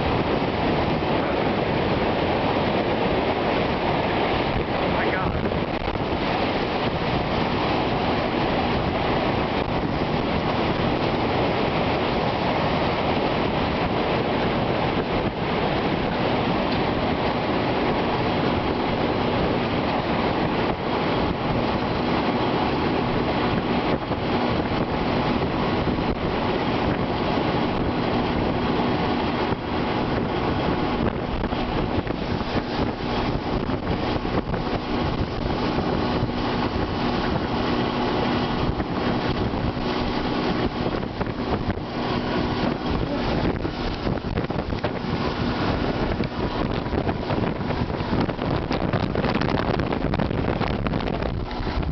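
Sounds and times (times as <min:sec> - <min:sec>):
roaring wind buffeting microphone: 0:00.0 - 0:51.9.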